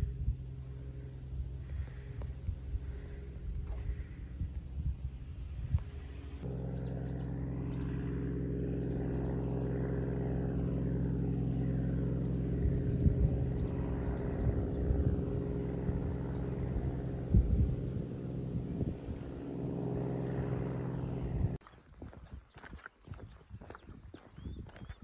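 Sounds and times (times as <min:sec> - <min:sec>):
steady engine hum: 0:00.0 - 0:22.2
small birds chirping: 0:00.0 - 0:25.0.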